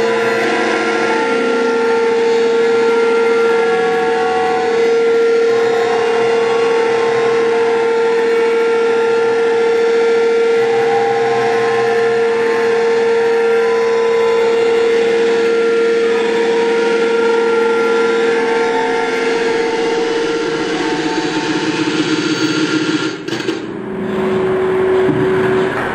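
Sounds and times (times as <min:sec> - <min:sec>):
electronic drone of held tones: 0:00.0 - 0:25.9.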